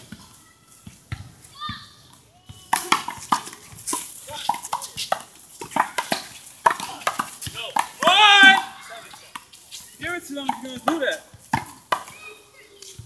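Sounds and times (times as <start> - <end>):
shoes scuffing on court: 0.0 - 13.0.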